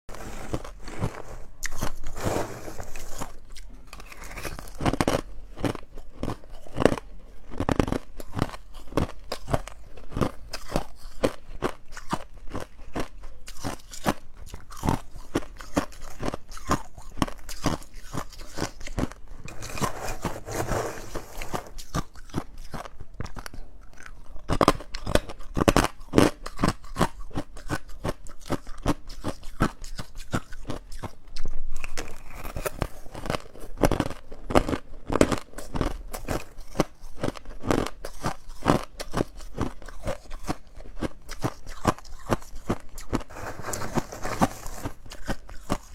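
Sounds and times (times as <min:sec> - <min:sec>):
ice being chewed: 0:00.1 - 0:45.9.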